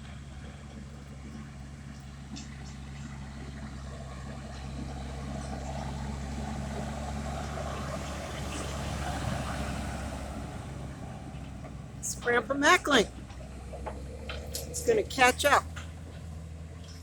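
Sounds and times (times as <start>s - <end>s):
harvest machinery engine running: 0.0s - 17.0s.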